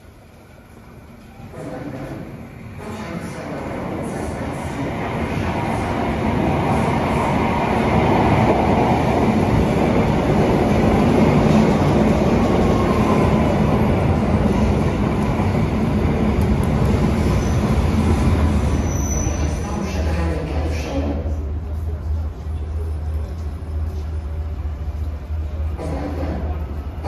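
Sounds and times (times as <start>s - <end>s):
train rail rumble: 0.0s - 27.0s.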